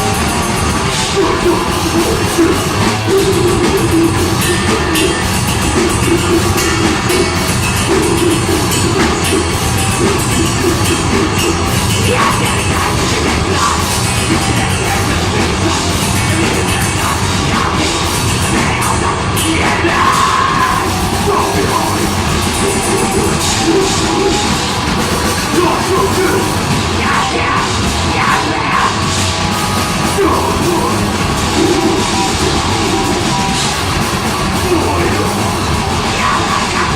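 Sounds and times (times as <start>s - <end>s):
harsh yelled vocals: 0.0s - 36.9s
heavy metal band playing live: 0.0s - 36.9s.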